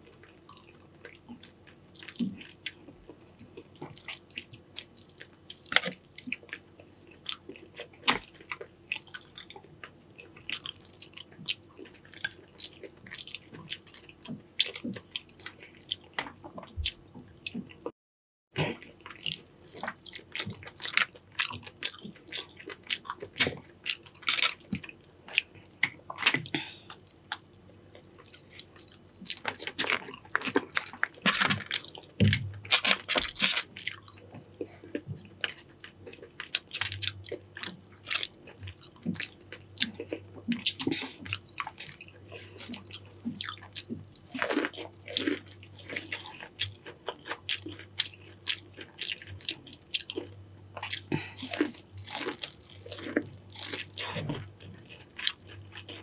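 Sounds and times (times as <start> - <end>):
person chewing and biting: 0.1 - 17.7, 18.7 - 56.0.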